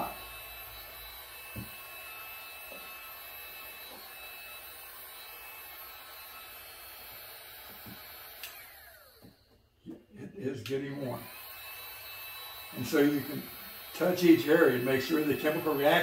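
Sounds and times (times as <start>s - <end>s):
heat gun blowing: 0.0s - 9.6s, 10.4s - 16.0s.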